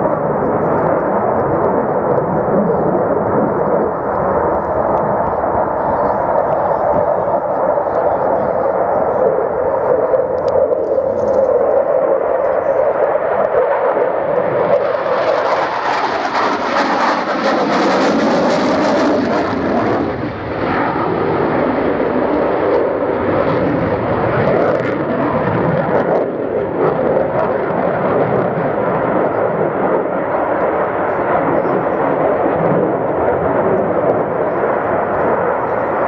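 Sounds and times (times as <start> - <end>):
fighter jet engine roaring: 0.0 - 36.0.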